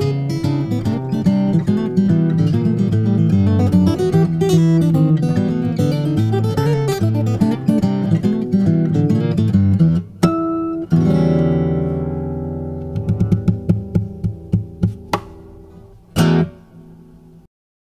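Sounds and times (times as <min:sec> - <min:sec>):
fingerstyle acoustic guitar: 0:00.0 - 0:17.5.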